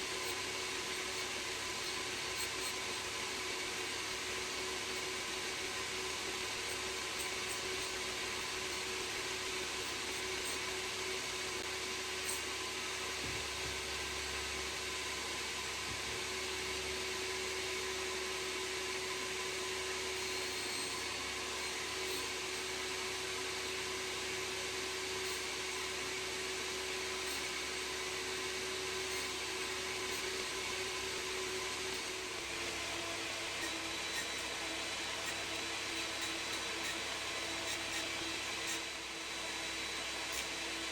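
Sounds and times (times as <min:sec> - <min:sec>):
electric motor tool humming: 0:00.0 - 0:40.9.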